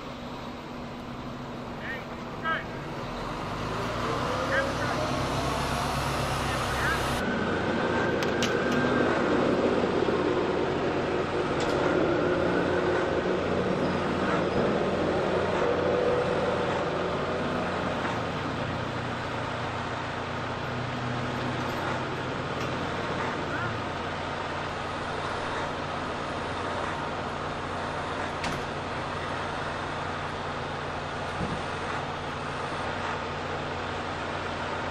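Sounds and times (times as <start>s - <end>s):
vehicle engines rumbling: 0.0s - 34.9s.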